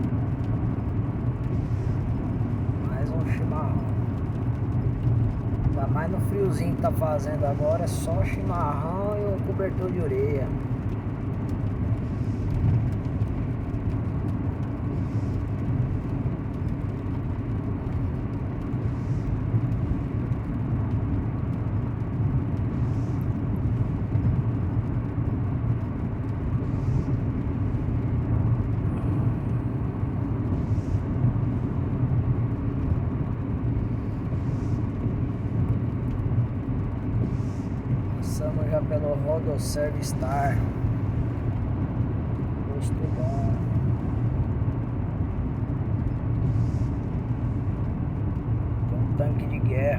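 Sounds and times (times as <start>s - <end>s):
truck engine rumble: 0.0s - 49.9s
tyre road noise: 0.0s - 49.9s.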